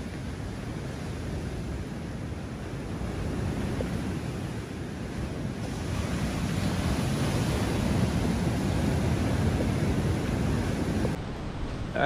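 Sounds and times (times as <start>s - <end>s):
surf breaking on stony beach: 0.0s - 12.0s
wind buffeting microphone: 0.0s - 12.0s.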